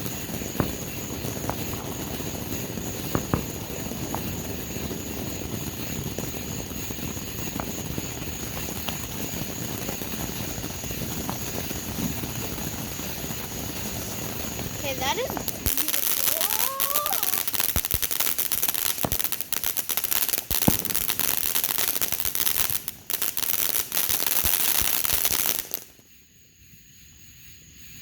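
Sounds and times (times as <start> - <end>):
fireworks popping: 0.0 - 26.2
fireworks rushing hiss: 0.0 - 28.0.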